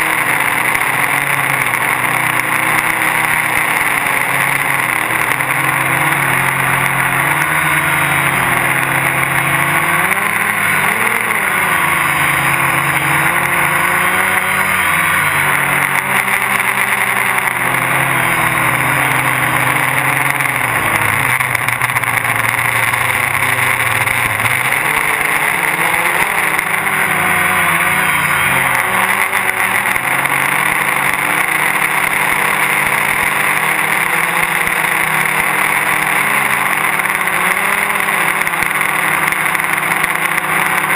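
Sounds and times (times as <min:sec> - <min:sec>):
drone propellers whirring: 0:00.0 - 0:40.9.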